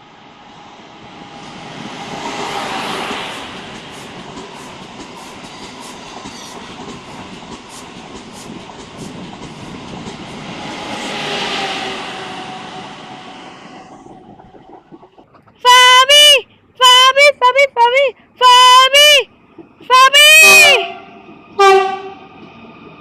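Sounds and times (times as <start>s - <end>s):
train passing on rails: 0.0s - 23.0s.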